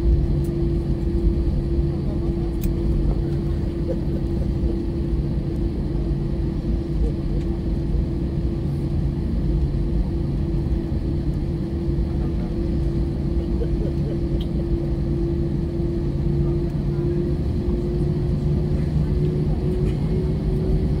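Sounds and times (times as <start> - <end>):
constant droning tone: 0.0 - 21.0
jet engines idling in cabin: 0.0 - 21.0.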